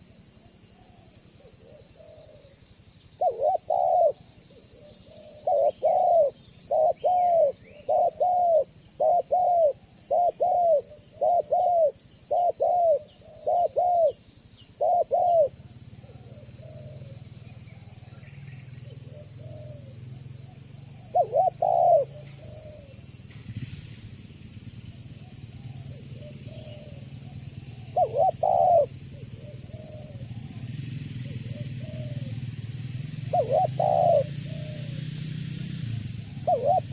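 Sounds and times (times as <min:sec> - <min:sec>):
dove cooing: 0:00.7 - 0:36.9.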